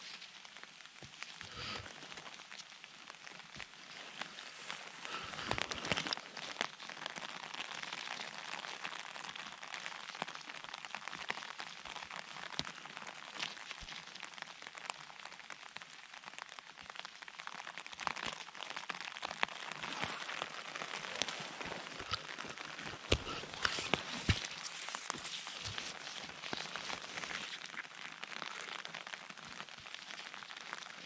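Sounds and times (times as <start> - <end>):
rustle of wet undergrowth: 0.0 - 14.5, 17.1 - 31.0
light rain pattering: 0.0 - 31.0.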